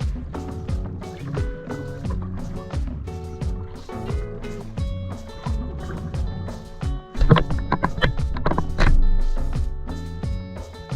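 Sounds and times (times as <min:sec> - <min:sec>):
background music with steady beat: 0:00.0 - 0:10.9.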